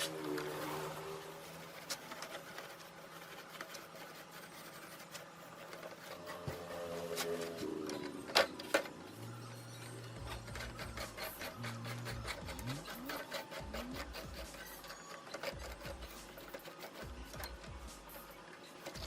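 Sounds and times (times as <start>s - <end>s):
small electric motor whirring: 0.0s - 19.0s.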